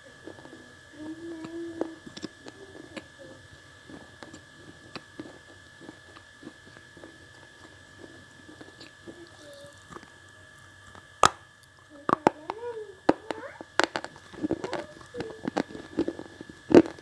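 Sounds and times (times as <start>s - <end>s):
faint high-pitched electrical whine: 0.0s - 17.0s
crisp chewing crunches: 1.4s - 12.5s, 13.6s - 17.0s.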